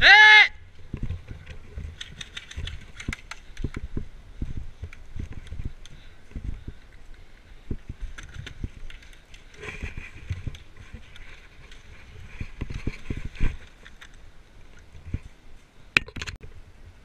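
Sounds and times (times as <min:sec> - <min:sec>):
rustling of gear and brush: 0:00.7 - 0:16.0.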